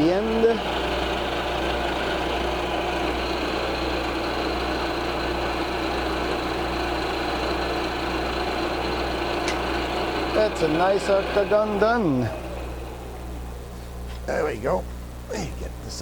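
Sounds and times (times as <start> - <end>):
milling machine hum: 0.0 - 16.0.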